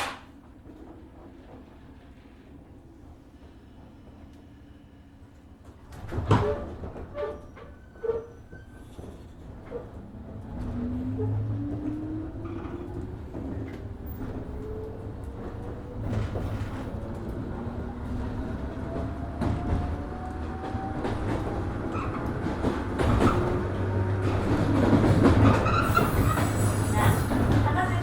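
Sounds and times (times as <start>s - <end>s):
train wheels clicking over rail joints: 5.3s - 28.0s.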